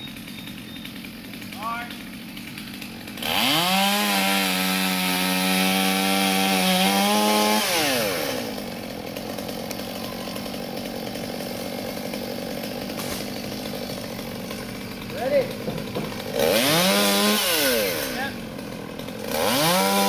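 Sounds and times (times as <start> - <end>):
chainsaw revving and idling: 0.0 - 20.0.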